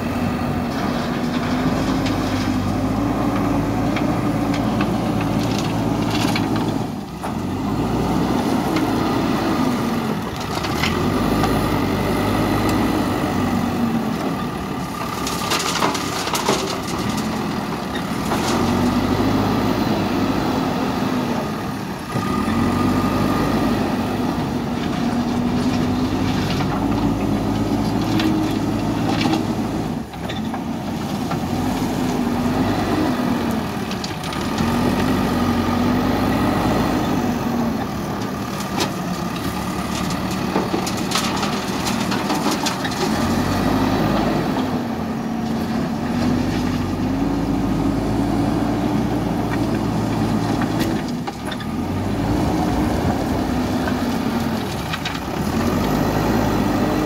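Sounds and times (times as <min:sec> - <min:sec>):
diesel engine revving: 0:00.0 - 0:57.0
gravel being loaded: 0:00.0 - 0:57.0.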